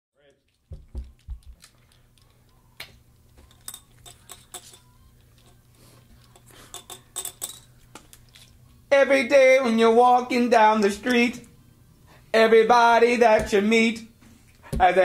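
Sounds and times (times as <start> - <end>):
faint low hum: 0.2 - 12.6.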